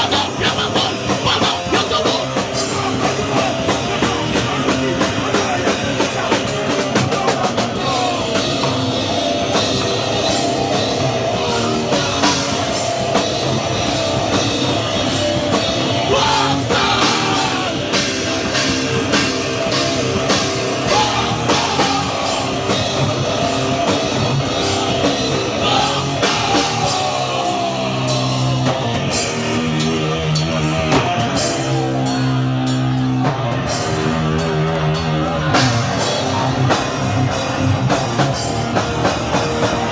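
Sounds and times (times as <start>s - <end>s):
fast drum kit hits: 0.0s - 34.4s
distorted electric guitars: 0.0s - 39.9s.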